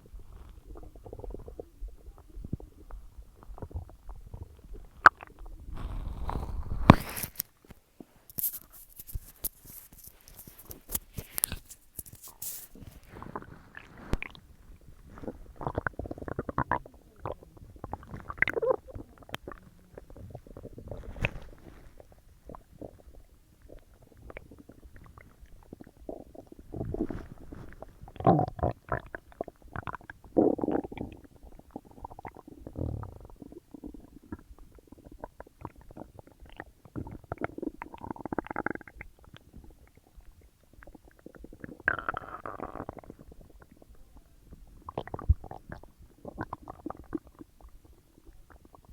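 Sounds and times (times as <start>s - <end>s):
stomach gurgling and rumbling: 0.0s - 48.9s.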